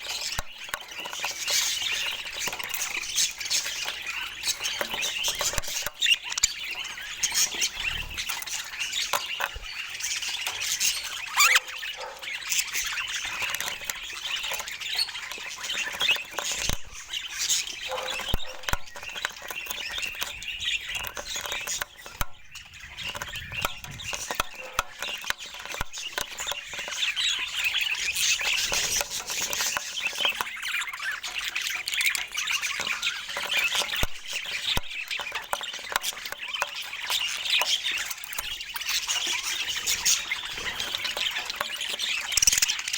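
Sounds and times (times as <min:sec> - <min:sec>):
budgerigars chattering and squawking: 0:00.0 - 0:42.9.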